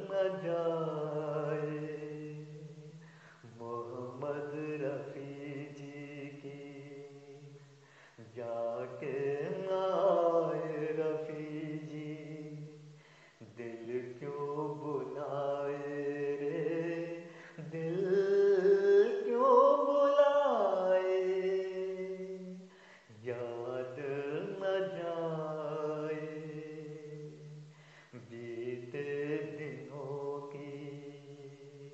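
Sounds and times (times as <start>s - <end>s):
man singing long held notes: 0.0s - 31.9s.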